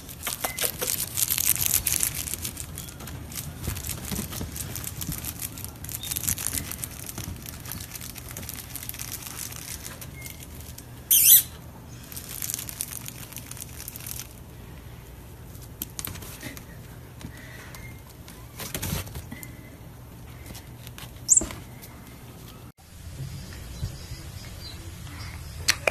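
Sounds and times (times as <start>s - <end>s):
kittens scratching and scrabbling: 0.0s - 22.6s.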